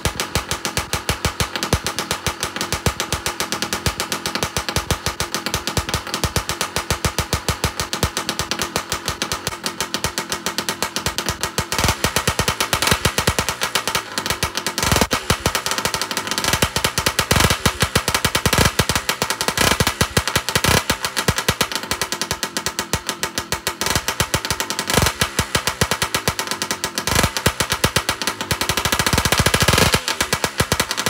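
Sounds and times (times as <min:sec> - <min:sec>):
two-stroke engine idling: 0:00.0 - 0:31.0.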